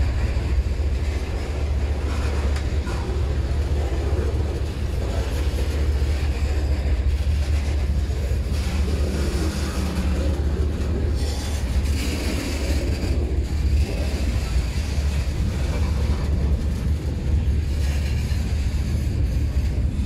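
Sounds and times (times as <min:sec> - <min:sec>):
freight train cars rolling past: 0:00.0 - 0:20.0.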